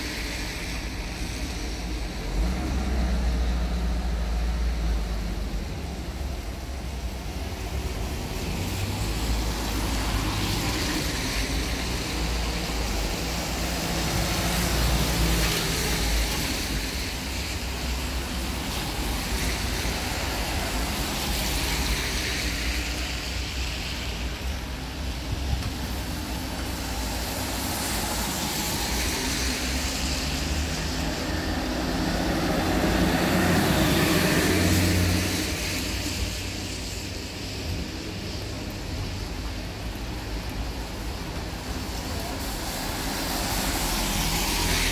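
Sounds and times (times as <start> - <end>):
steady low traffic rumble: 0.0 - 44.9
tyres hissing on wet road: 0.0 - 44.9.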